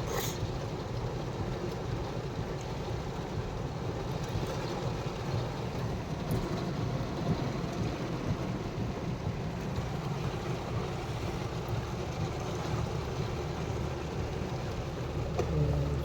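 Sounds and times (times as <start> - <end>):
car rumble from inside cabin: 0.0 - 16.0.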